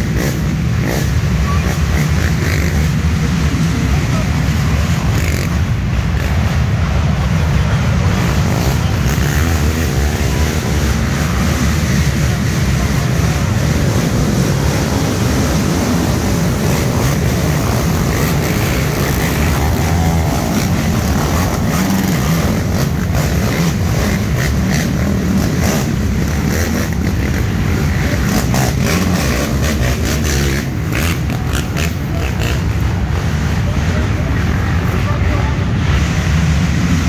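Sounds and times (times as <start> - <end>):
racing atv engines revving: 0.0 - 37.0.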